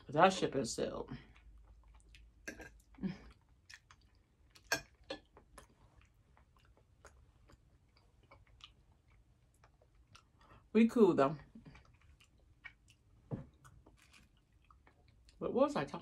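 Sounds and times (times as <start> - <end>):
chewing food: 1.2 - 10.7, 11.4 - 15.4.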